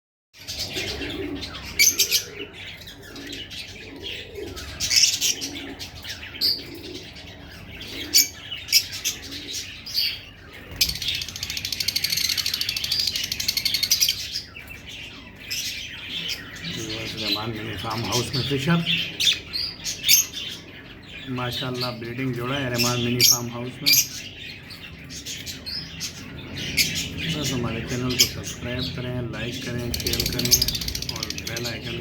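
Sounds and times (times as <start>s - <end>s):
lovebirds chirping: 0.4s - 32.0s.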